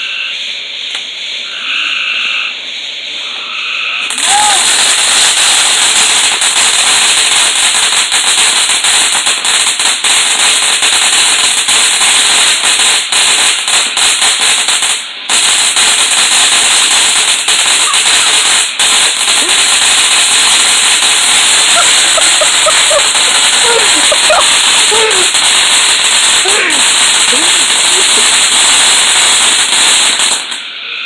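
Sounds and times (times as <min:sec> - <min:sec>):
firework hissing and crackling: 0:00.0 - 0:01.6, 0:02.2 - 0:31.0.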